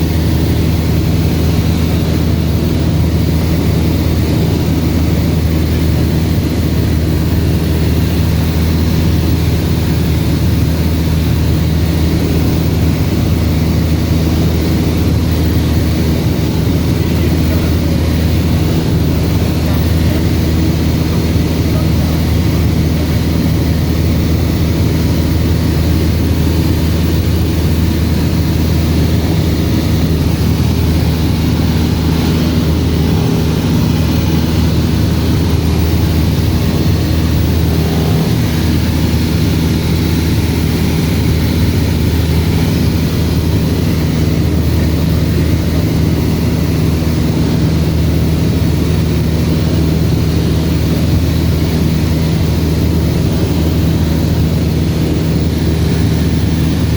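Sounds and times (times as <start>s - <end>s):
propeller plane engine drone: 0.0s - 56.9s.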